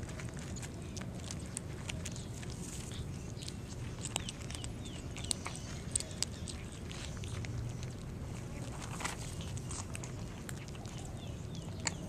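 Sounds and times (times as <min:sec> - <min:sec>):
kittens crunching dry kibble: 0:00.0 - 0:12.0
low background noise: 0:00.0 - 0:12.0.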